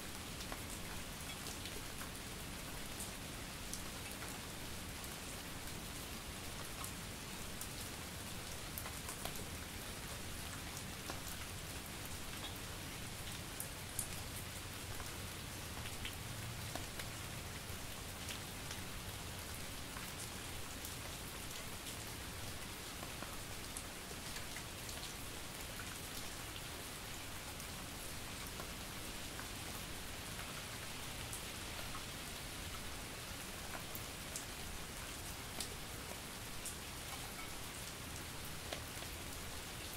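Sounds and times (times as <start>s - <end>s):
light rain pattering: 0.0s - 39.9s.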